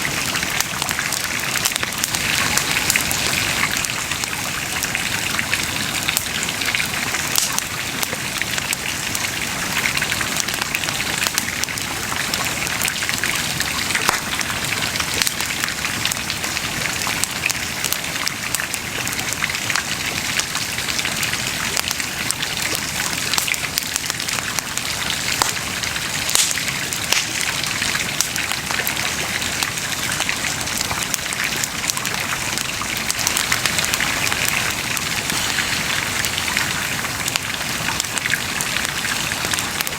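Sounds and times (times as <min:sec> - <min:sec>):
bonfire crackling: 0:00.0 - 0:39.9
fire snapping: 0:00.2 - 0:09.4, 0:10.0 - 0:39.9.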